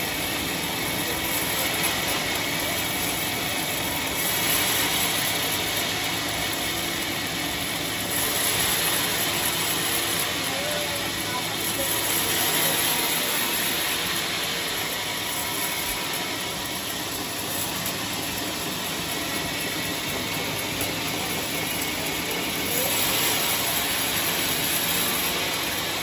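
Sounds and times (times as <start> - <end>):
circular saw cutting log: 0.0 - 26.0.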